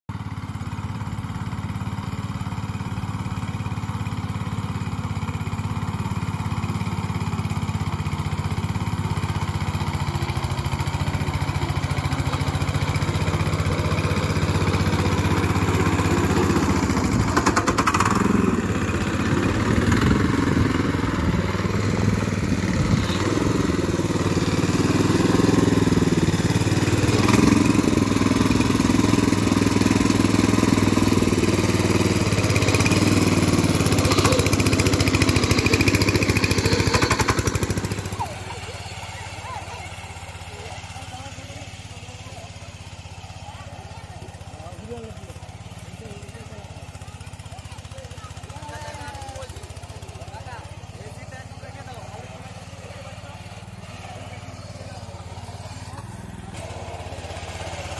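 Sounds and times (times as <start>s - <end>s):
small engine running: 0.1s - 57.9s.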